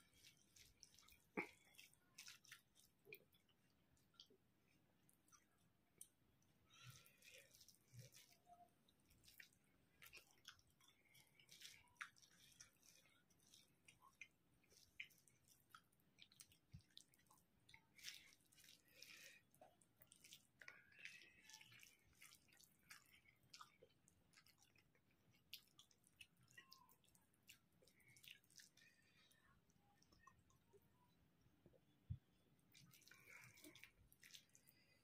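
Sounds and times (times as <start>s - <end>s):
wet chewing: 0.0s - 30.8s, 31.8s - 35.0s.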